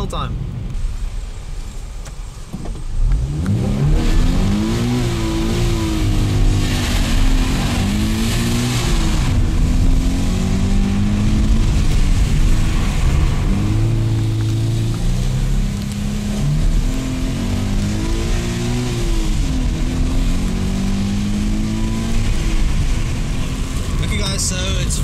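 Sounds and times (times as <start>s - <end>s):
car engine revving hard: 3.0s - 25.0s.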